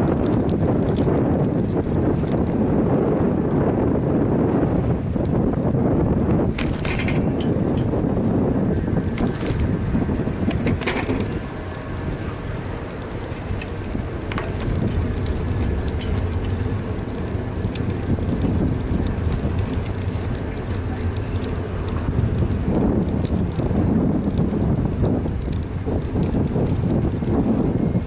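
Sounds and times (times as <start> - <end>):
bicycle clicks and rattles: 0.0 - 28.0
tyres rumbling on road: 0.0 - 28.0
wind buffeting microphone: 0.0 - 28.0.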